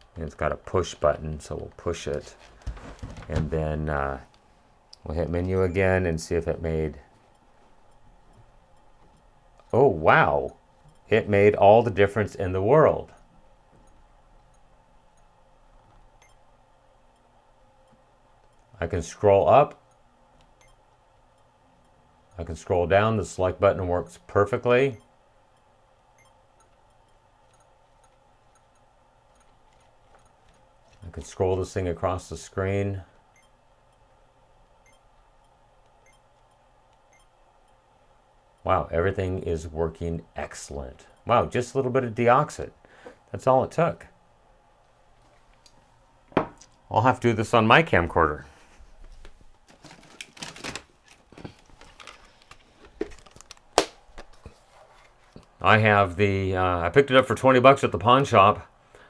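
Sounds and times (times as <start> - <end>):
faint hum: 0.0 - 59.0.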